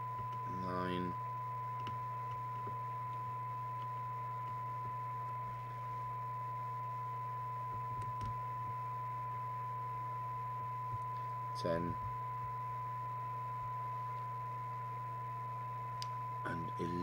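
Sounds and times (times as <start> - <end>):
low steady hum: 0.0 - 17.0
steady test tone from radio speaker: 0.0 - 17.0.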